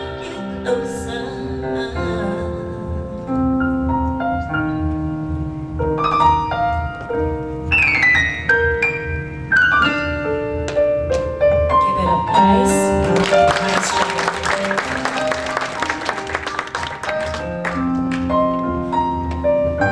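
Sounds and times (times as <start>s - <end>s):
piano playing ringing notes: 0.0s - 19.9s.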